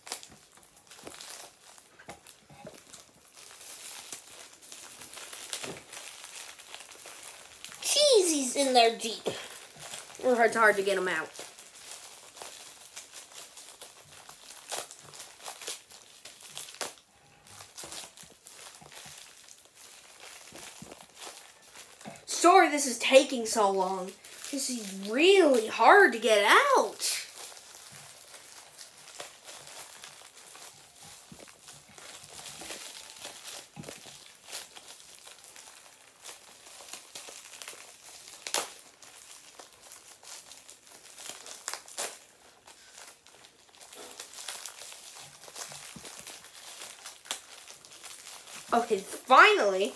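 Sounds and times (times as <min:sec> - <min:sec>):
packaging crinkling and rustling: 0:00.0 - 0:49.9.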